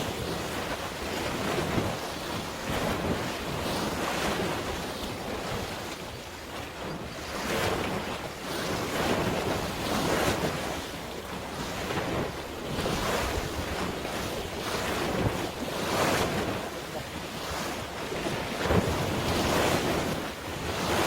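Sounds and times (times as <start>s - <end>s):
sea waves washing in: 0.0s - 21.0s
wind buffeting microphone: 0.0s - 21.0s.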